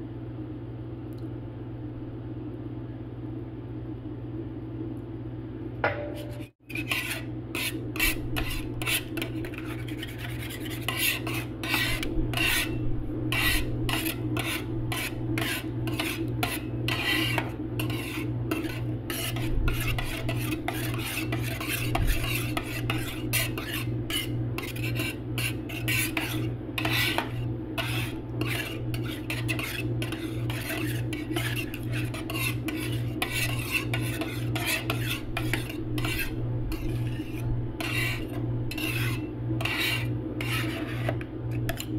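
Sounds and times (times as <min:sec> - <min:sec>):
steady low hum: 0:00.0 - 0:41.9
spatulas scraping on steel plate: 0:05.9 - 0:41.9.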